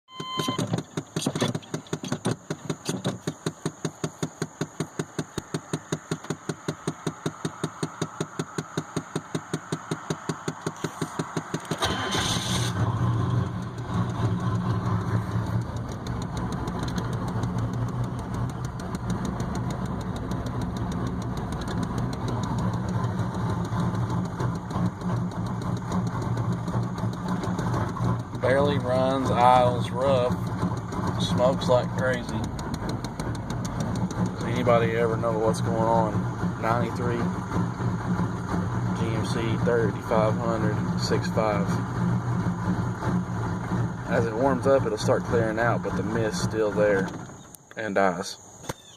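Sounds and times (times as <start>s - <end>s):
diesel engine cranking: 0.1s - 48.9s
diesel engine rough idle: 4.2s - 48.9s.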